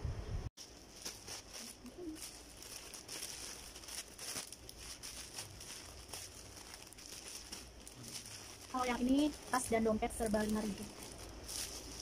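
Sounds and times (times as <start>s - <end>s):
plastic bags rustling: 0.6s - 12.0s.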